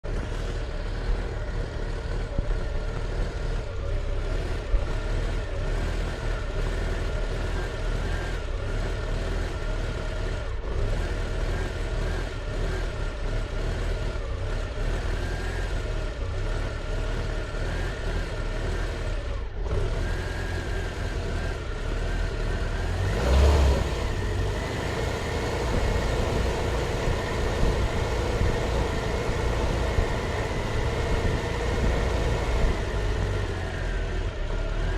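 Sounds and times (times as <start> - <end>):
car engine idling roughly: 0.0 - 23.0, 24.1 - 34.9.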